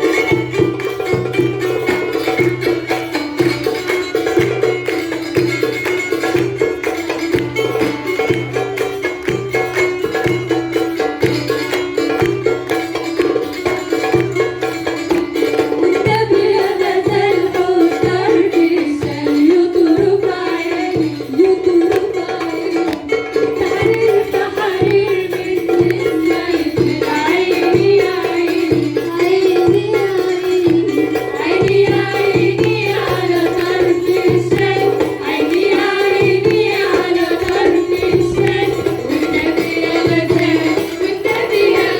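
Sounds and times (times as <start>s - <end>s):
hand percussion: 0.0s - 41.9s
plucked lyre: 0.0s - 41.9s.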